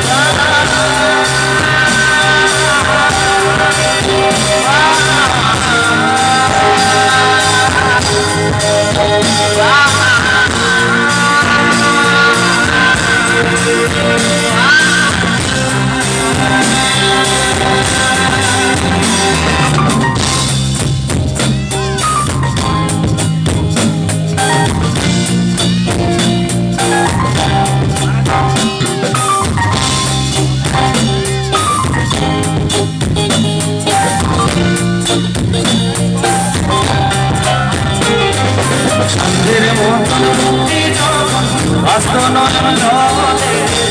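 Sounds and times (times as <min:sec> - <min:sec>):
bass: 0:00.0 - 0:43.9
drum kit: 0:00.0 - 0:43.9.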